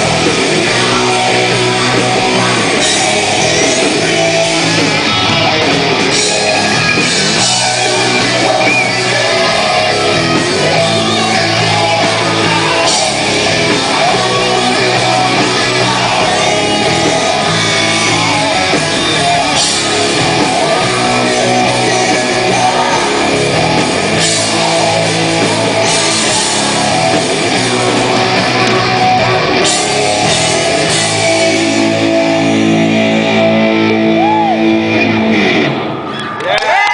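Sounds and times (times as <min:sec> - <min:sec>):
person singing: 0:00.0 - 0:35.6
live hard rock band: 0:00.0 - 0:36.9.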